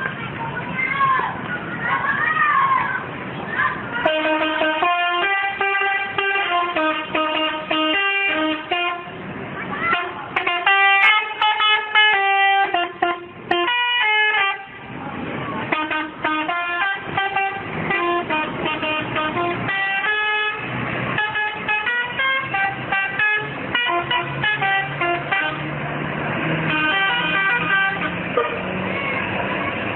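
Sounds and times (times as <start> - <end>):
multi-tone bus horn tune: 4.0 - 9.2, 9.8 - 14.9, 15.7 - 29.9.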